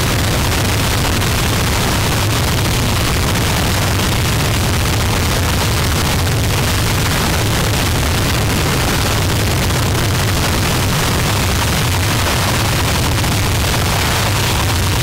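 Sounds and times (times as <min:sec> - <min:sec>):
harsh noise music static: 0:00.0 - 0:15.0
heavy low rumble: 0:00.0 - 0:15.0.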